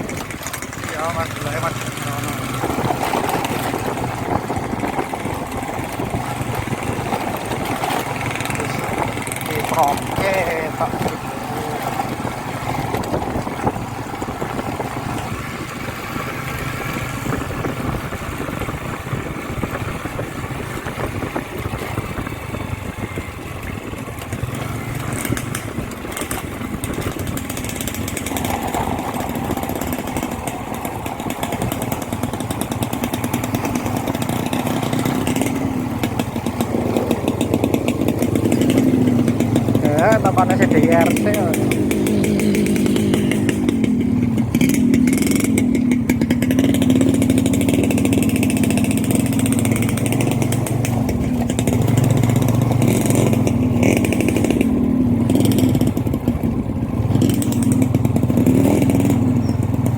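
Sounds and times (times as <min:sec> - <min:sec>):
small motorcycle engine running: 0:00.0 - 0:59.9.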